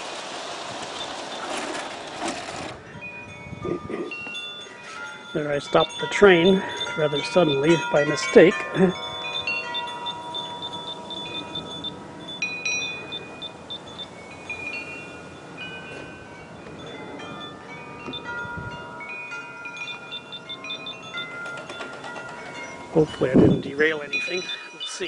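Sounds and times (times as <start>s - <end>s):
wind chimes ringing: 2.4s - 25.0s.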